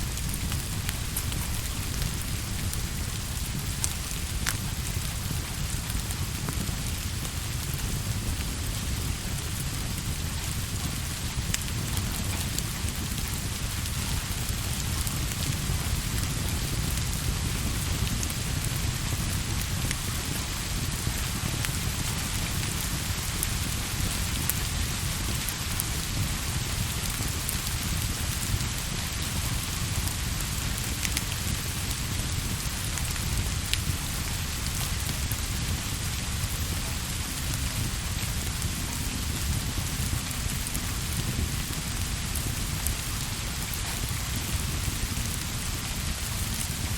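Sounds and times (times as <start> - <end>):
sharp rain ticks: 0.0 - 46.9
steady rain hiss: 0.0 - 46.9.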